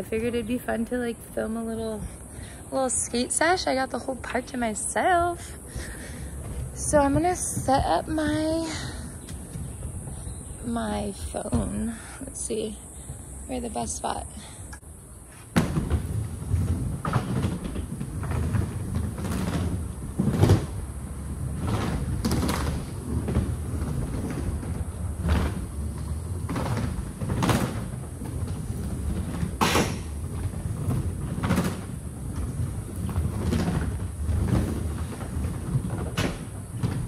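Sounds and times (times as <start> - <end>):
skateboard wheels rolling on wood: 0.0 - 37.0.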